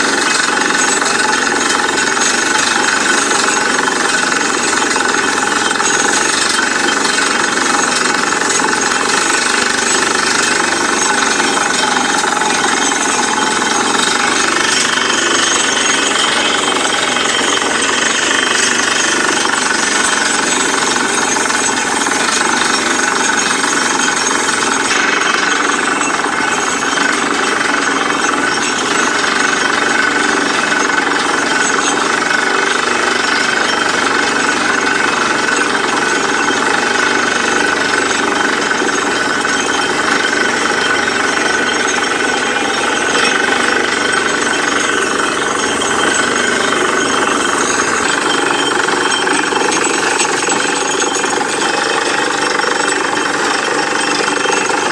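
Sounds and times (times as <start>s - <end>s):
drilling rig clattering with hiss: 0.0s - 54.9s.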